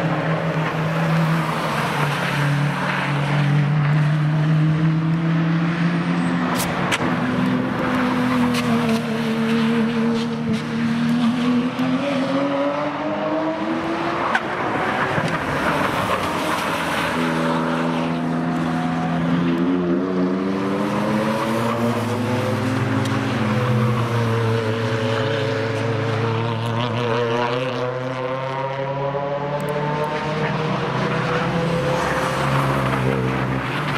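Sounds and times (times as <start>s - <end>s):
cars driving by at speed: 0.0s - 33.9s.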